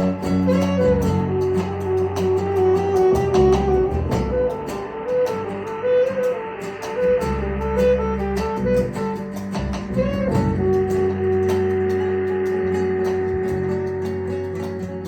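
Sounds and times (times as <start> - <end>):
low bass: 0.0 - 15.0
picked guitar notes: 0.0 - 15.0.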